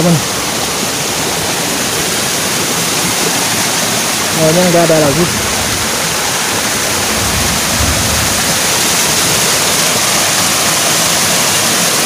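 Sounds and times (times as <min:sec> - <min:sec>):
stream rushing and splashing: 0:00.0 - 0:12.0.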